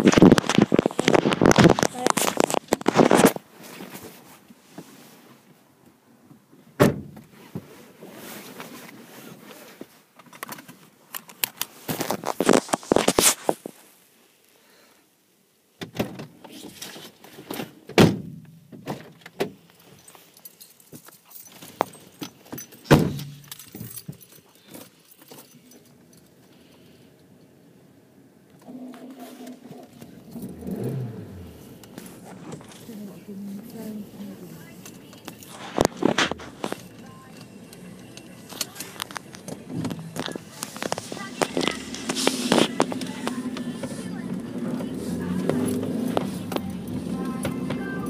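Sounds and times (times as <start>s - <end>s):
handling and rustling: 0.0s - 5.6s, 7.2s - 14.1s, 18.8s - 26.8s, 28.7s - 48.0s.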